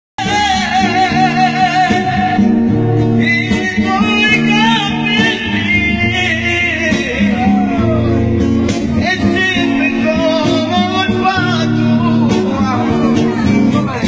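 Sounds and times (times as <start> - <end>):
acoustic guitar chords: 0.2 - 14.0
man singing into a microphone: 0.2 - 14.0.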